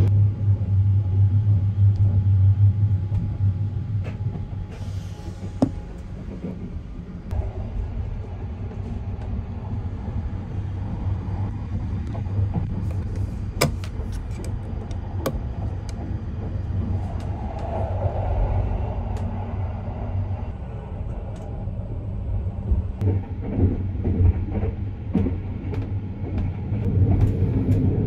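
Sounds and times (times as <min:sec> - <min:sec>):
train running low rumble: 0:00.0 - 0:28.0.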